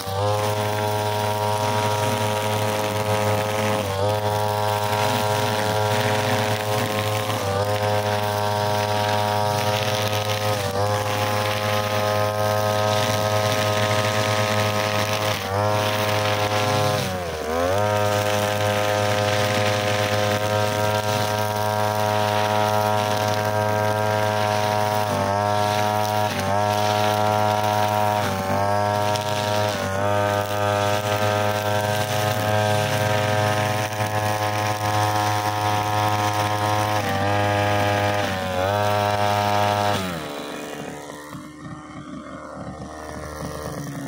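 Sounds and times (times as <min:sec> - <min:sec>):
brushcutter engine cutting grass: 0:00.0 - 0:44.0.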